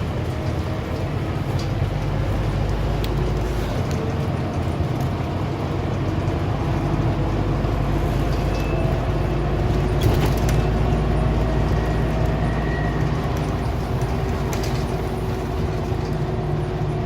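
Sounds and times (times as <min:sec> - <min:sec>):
diesel engine drone: 0:00.0 - 0:17.0
road noise: 0:00.0 - 0:17.0.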